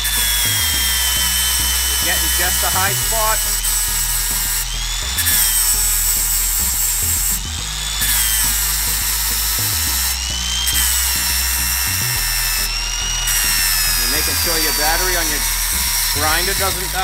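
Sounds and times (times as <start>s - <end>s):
angle grinder grinding metal: 0.0s - 17.0s.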